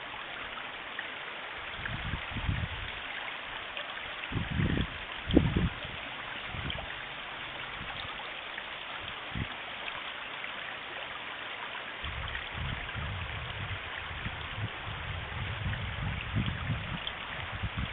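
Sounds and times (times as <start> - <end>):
floodwater rushing: 0.0 - 17.9.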